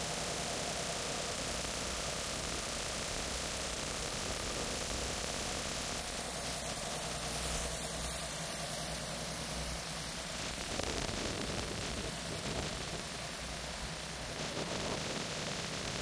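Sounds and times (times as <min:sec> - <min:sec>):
wind hiss on microphone: 0:00.0 - 0:16.0.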